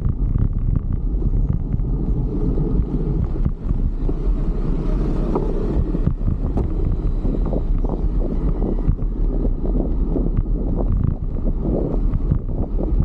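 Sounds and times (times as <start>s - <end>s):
passing road traffic: 0.0s - 13.0s
wind buffeting microphone: 0.0s - 13.0s.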